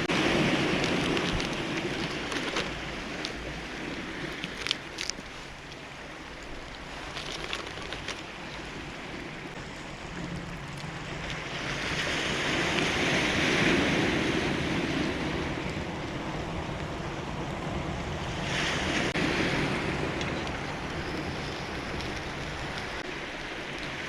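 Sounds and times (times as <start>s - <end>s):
waves breaking on cobble beach: 0.0s - 24.0s.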